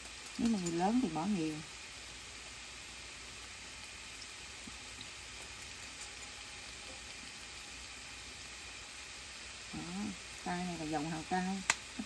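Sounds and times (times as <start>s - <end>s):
tofu sizzling in a frying pan: 0.0s - 12.0s.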